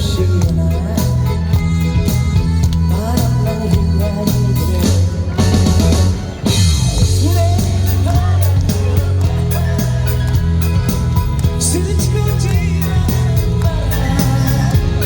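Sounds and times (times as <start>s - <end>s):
bass guitar: 0.0s - 15.0s
drum kit: 0.0s - 15.0s
live band music: 0.0s - 15.0s.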